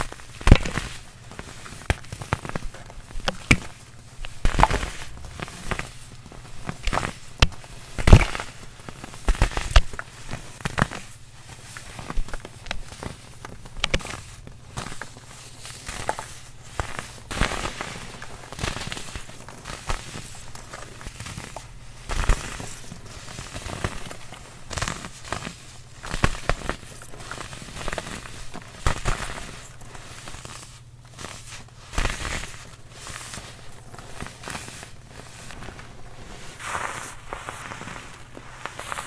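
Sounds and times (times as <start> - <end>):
baking soda crunching: 0.0 - 39.0.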